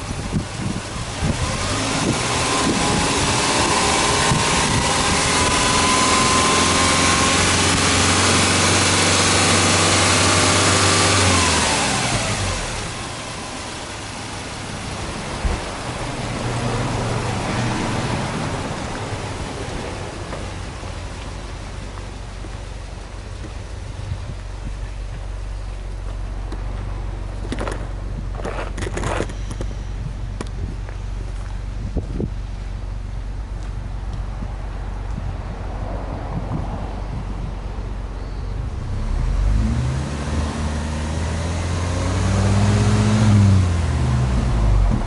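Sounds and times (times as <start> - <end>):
car engine revving and idling: 0.0 - 45.0.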